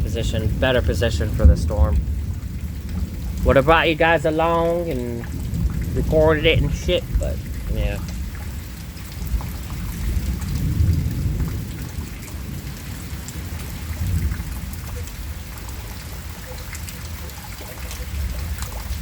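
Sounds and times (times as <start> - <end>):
rolling thunder: 0.0 - 16.9
rain falling: 0.0 - 19.0.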